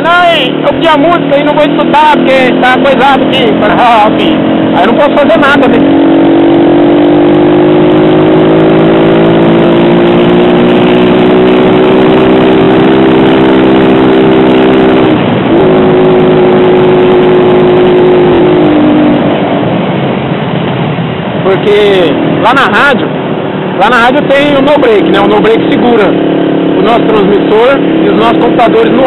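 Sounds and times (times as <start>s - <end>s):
wind rushing: 0.0s - 28.2s
motorcycle engine accelerating: 0.0s - 29.0s.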